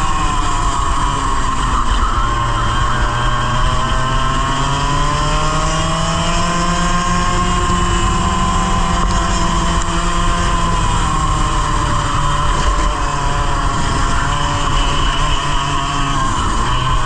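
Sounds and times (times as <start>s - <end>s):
kart engine revving: 0.0s - 17.0s.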